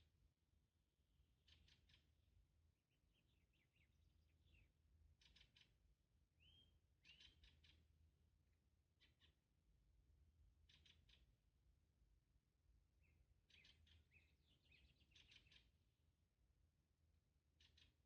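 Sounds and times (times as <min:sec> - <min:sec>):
quiet birds chirping: 0:00.0 - 0:18.0.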